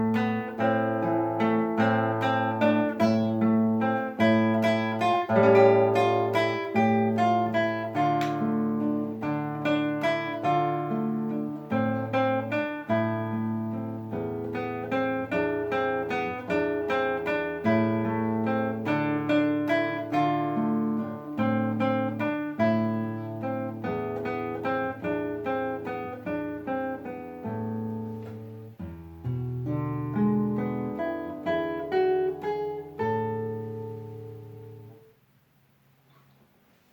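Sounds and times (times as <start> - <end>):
fingerpicked acoustic guitar: 0.0 - 35.2.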